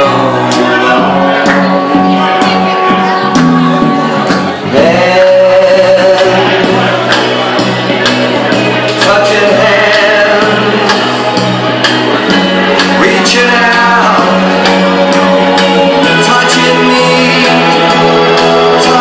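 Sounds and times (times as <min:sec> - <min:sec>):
dance music with singer: 0:00.0 - 0:19.0.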